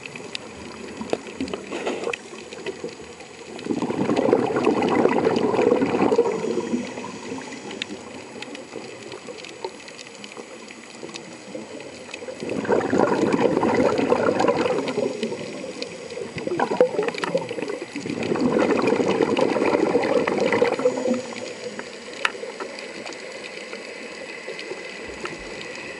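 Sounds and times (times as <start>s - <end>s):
underwater exhale bubbling: 0.0s - 25.9s
underwater water noise: 0.0s - 25.9s.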